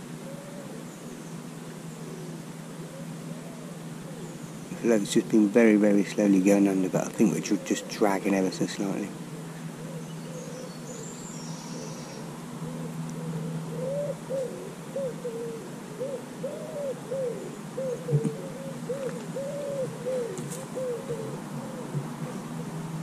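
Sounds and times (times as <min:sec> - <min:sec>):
low steady hum: 0:00.0 - 0:23.0
pigeon cooing: 0:00.0 - 0:23.0.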